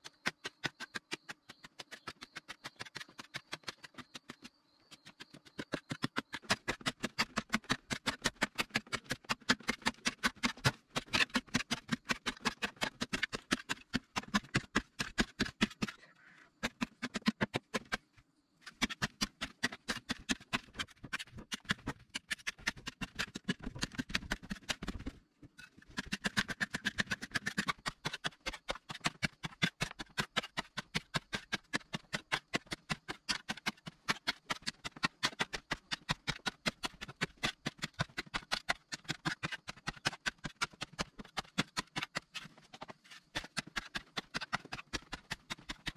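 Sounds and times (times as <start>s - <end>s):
digging tool striking clay soil: 0.0s - 16.0s, 16.6s - 45.9s.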